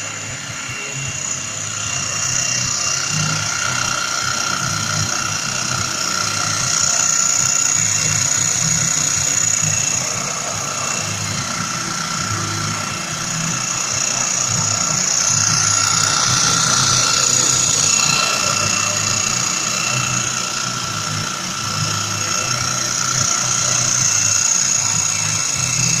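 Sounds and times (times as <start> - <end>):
bandsaw running: 0.0 - 26.0.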